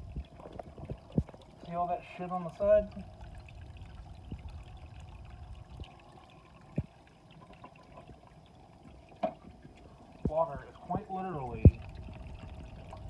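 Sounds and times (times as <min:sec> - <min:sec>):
water splashing into tank: 0:00.0 - 0:13.0.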